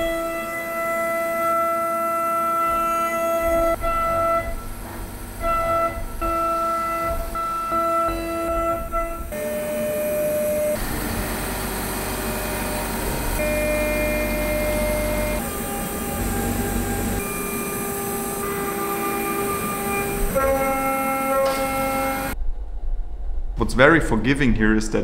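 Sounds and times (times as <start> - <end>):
cnc router milling metal: 0.0 - 22.4.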